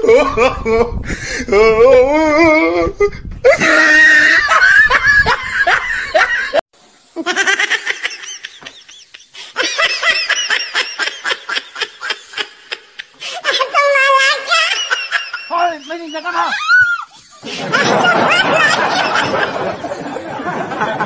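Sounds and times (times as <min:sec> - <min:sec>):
person laughing loudly: 0:03.5 - 0:06.6, 0:07.2 - 0:21.0.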